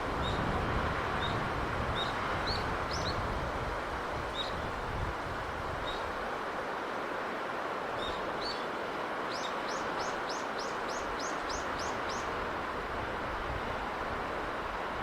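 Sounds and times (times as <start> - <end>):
sea breeze: 0.0 - 15.0
waves: 0.0 - 15.0.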